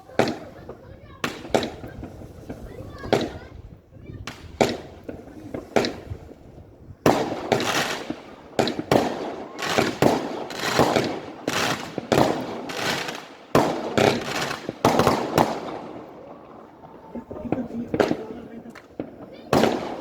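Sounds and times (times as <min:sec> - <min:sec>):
fireworks banging and crackling: 0:00.0 - 0:20.0.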